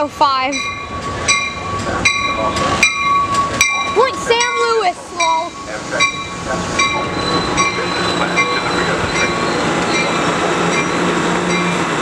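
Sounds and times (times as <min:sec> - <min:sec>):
passenger train cars rolling past: 0:00.0 - 0:12.0
ringing ding: 0:00.5 - 0:10.2.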